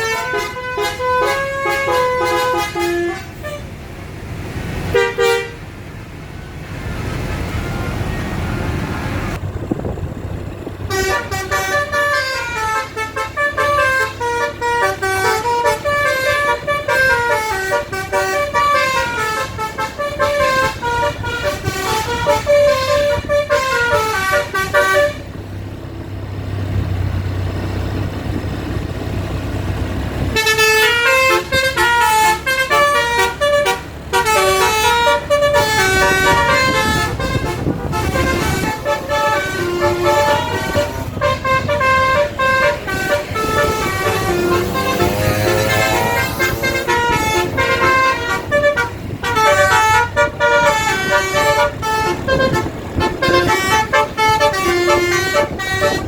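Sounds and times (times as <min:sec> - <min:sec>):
multi-tone bus horn melody: 0:00.0 - 0:03.8, 0:04.8 - 0:05.8, 0:10.7 - 0:25.4, 0:29.7 - 0:56.0
low engine hum: 0:00.0 - 0:56.0.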